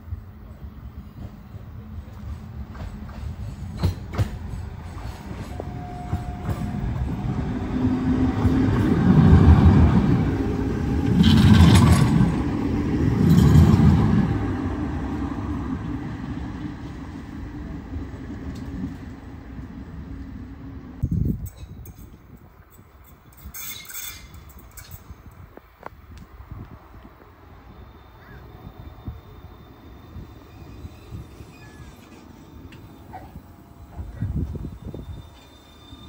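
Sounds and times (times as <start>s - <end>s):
tram rumbling past on rails: 0.0s - 36.0s
tram wheel noise and rattle: 0.0s - 36.0s.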